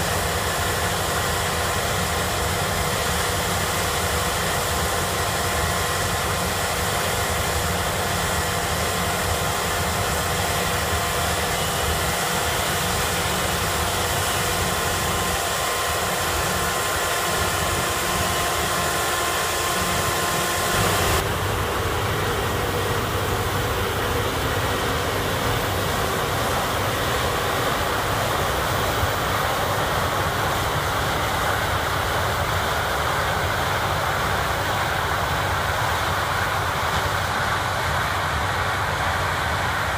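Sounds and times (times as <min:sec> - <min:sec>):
combine harvester drone: 0:00.0 - 0:39.9
tractor running: 0:00.0 - 0:39.9.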